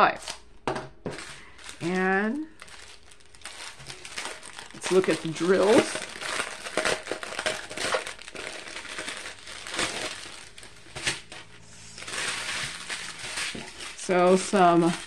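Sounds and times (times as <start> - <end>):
plastic packaging crinkling: 1.0 - 15.0.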